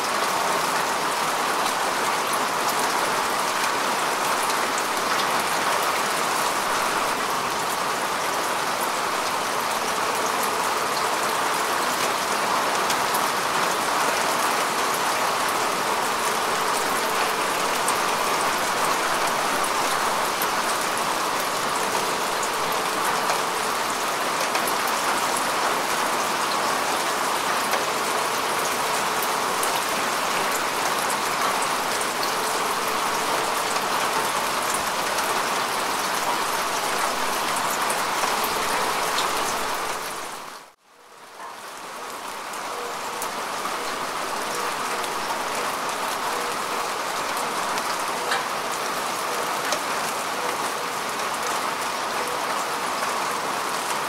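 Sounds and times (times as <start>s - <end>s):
rain falling on grass: 0.0s - 54.0s.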